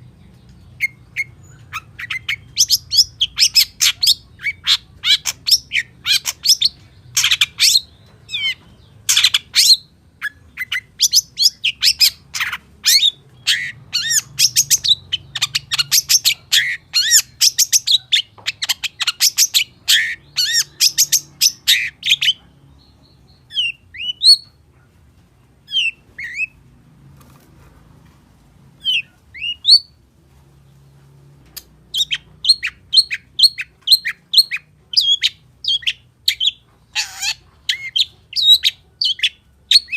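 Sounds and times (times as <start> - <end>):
bird chattering song: 0.0 - 24.8, 28.8 - 30.0, 31.8 - 39.9.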